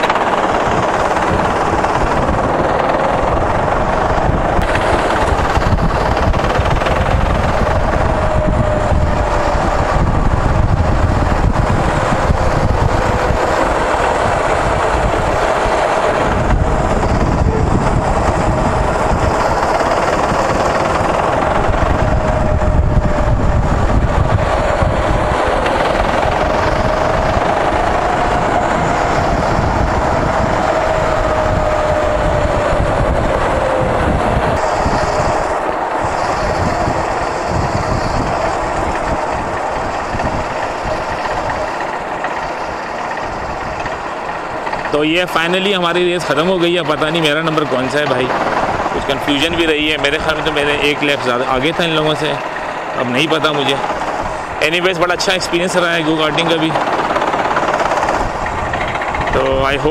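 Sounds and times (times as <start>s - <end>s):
go-kart engine whining: 0.0s - 59.9s.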